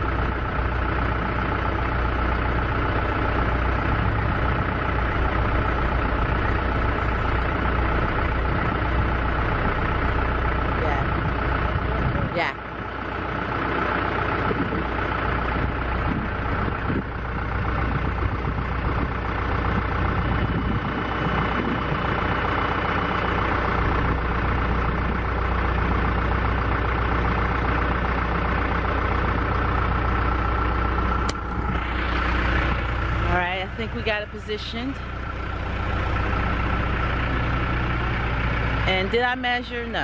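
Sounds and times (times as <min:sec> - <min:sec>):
diesel engine running at low revs: 0:00.0 - 0:40.0.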